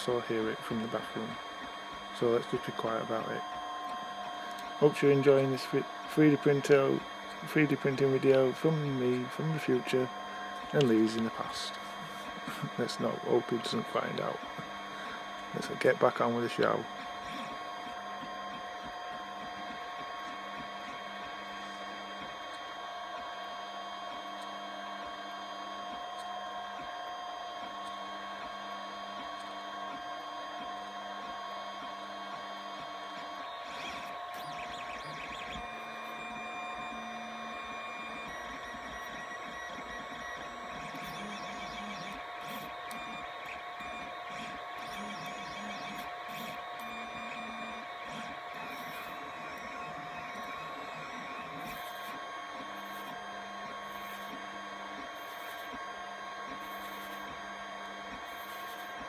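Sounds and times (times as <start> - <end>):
printer motors and fans whine: 0.0 - 59.0.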